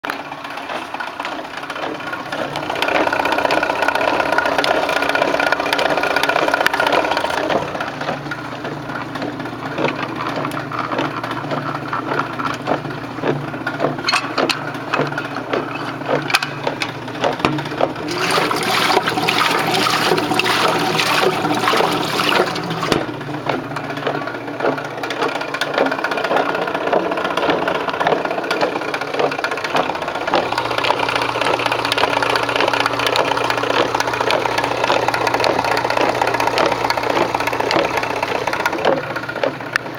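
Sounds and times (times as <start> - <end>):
gearing rattling and clattering: 0.0 - 39.9
agitator swishing water: 0.2 - 39.9
electric motor hum: 1.9 - 39.9.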